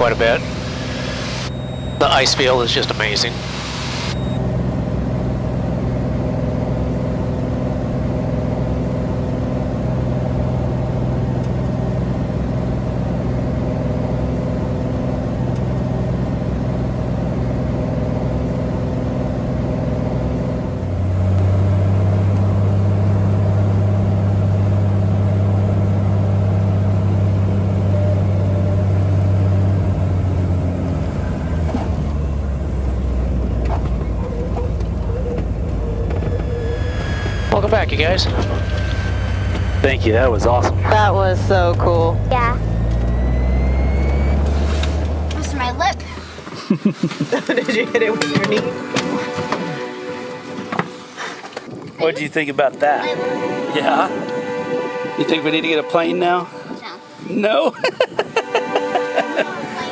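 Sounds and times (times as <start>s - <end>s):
plane engine and propeller: 0.0s - 46.8s, 47.4s - 59.9s
plane rolling along runway: 0.0s - 59.9s.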